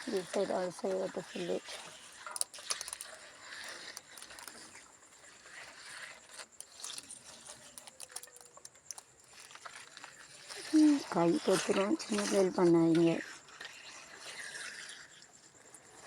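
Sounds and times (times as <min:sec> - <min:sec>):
spoon scraping wet mortar: 0:00.0 - 0:16.0.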